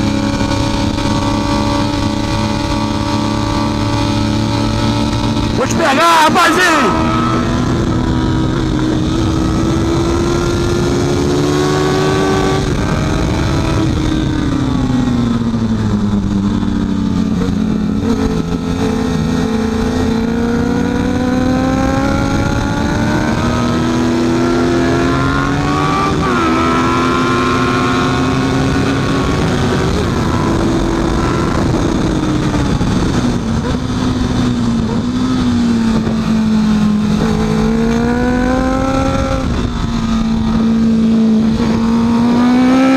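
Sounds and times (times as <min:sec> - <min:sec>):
motorcycle engine running hard: 0:00.0 - 0:42.9.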